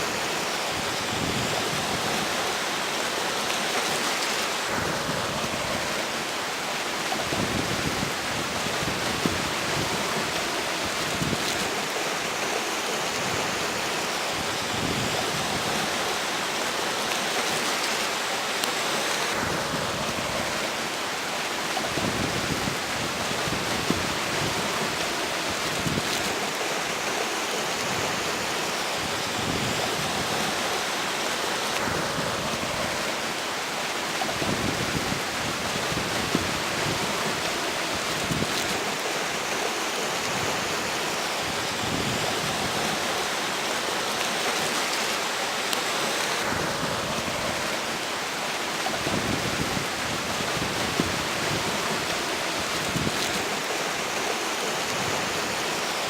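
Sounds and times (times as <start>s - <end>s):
wind gusting on microphone: 0.0s - 2.8s, 4.5s - 17.7s, 18.8s - 56.0s
river water rushing: 0.0s - 56.0s.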